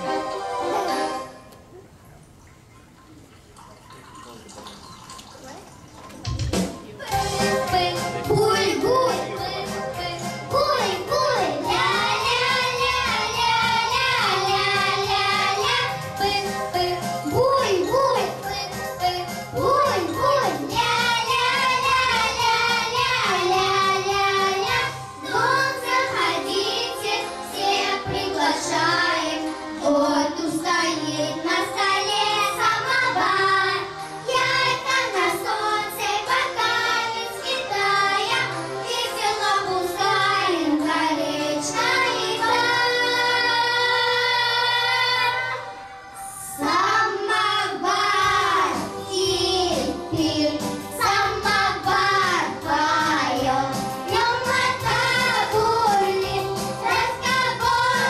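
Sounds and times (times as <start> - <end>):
children's choir singing: 0.0 - 1.4, 7.0 - 58.0
musical accompaniment: 0.0 - 58.0.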